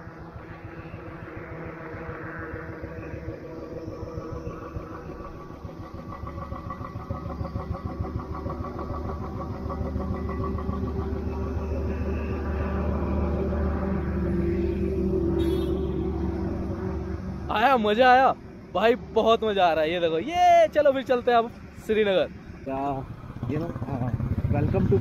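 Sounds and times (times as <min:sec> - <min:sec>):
vehicle engine pulsing: 0:00.0 - 0:25.0.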